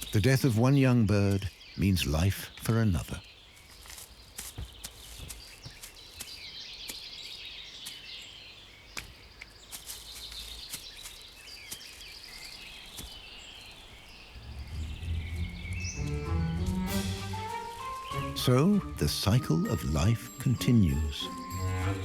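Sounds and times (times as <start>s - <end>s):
birds twittering: 0.0s - 22.0s.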